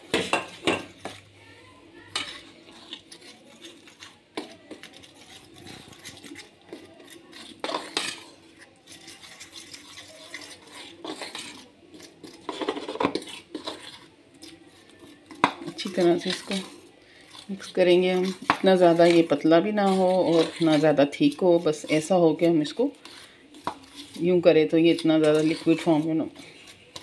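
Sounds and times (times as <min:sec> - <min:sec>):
utensil scraping ceramic bowl: 0:02.0 - 0:27.0.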